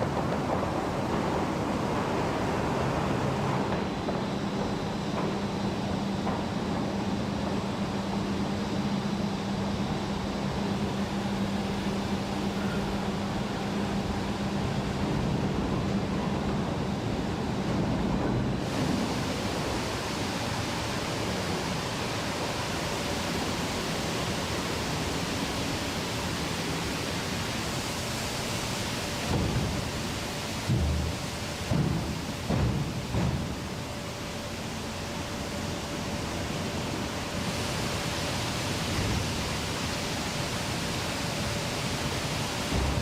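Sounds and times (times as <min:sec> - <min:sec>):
steel mill rushing roar: 0:00.0 - 0:43.0.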